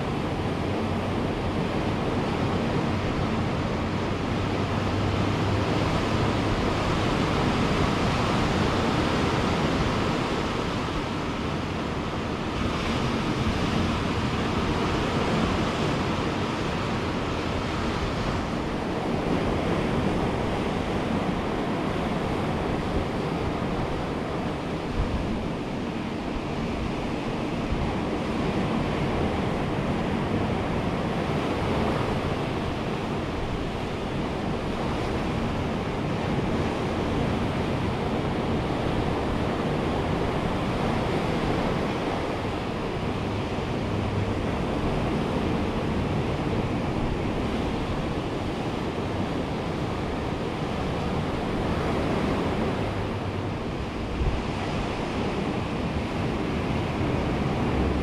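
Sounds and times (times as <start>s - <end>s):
ocean surf breaking: 0.0s - 58.0s
wind on microphone: 0.0s - 58.0s.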